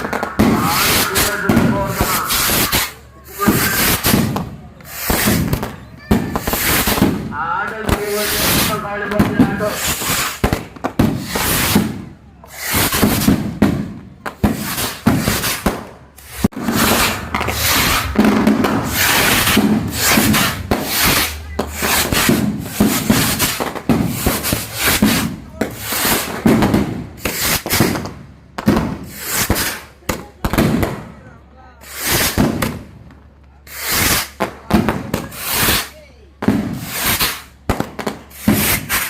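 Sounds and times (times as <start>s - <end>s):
fireworks crackling and hissing: 0.0s - 39.0s.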